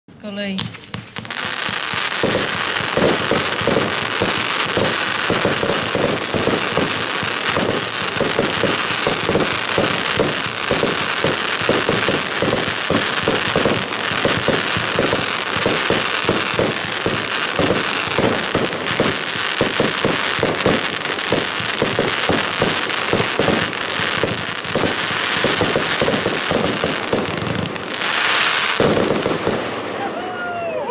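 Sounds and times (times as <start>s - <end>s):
firework battery firing: 0.4s - 30.6s
firework hiss: 0.7s - 30.0s.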